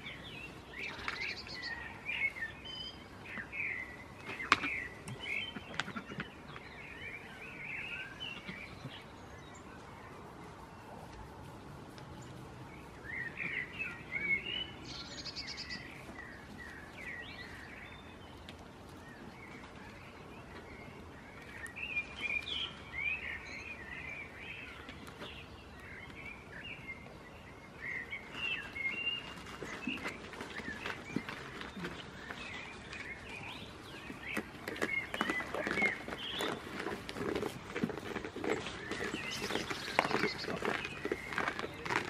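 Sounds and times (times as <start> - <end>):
faint outdoor background noise: 0.0 - 42.0
small birds chirping: 0.0 - 42.0.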